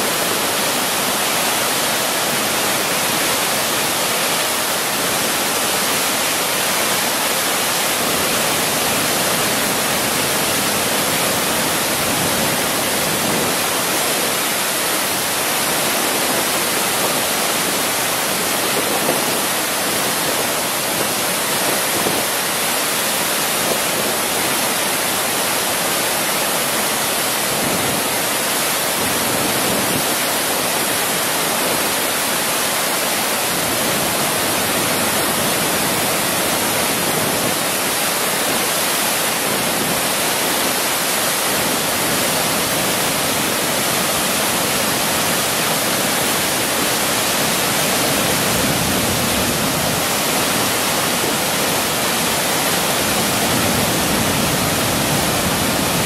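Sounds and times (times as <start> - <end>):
water rushing over spillway: 0.0 - 56.0.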